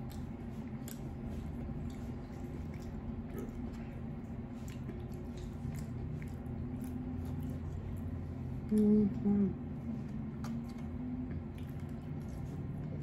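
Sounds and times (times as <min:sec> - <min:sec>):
close-up chewing: 0:00.0 - 0:13.0
steady low hum: 0:00.0 - 0:13.0.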